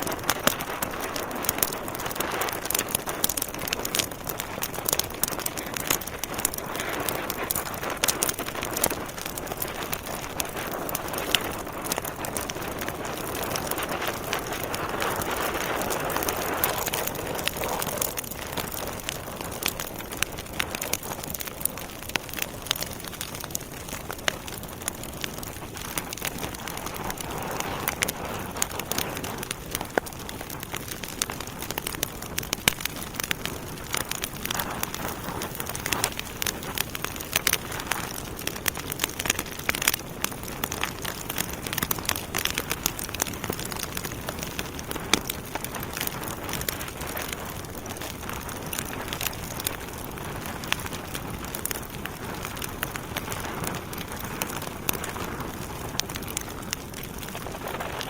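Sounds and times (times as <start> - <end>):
wood fire crackling and popping: 0.0 - 58.0
fire hissing: 0.1 - 58.0.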